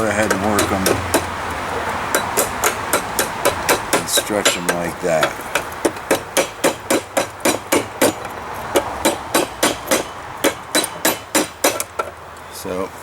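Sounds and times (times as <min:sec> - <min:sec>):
hammer striking metal on anvil: 0:00.0 - 0:01.3, 0:02.1 - 0:12.1.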